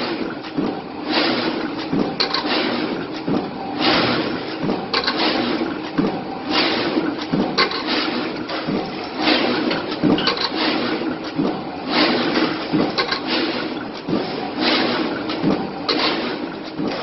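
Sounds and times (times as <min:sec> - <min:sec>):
hissing clatter: 0:00.0 - 0:17.0.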